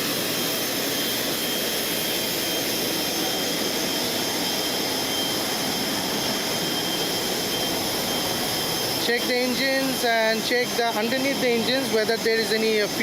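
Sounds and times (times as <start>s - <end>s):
jet turbine rushing whine: 0.0s - 13.0s.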